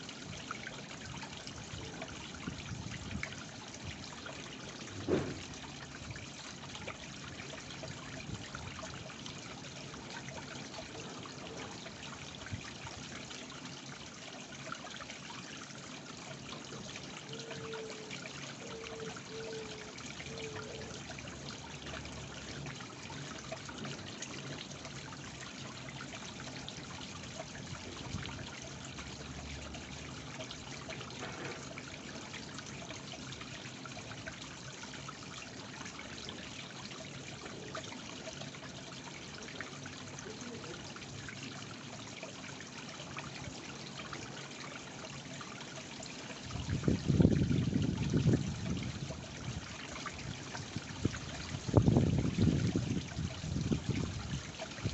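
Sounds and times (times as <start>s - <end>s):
waterfall trickling over stones: 0.0s - 54.9s.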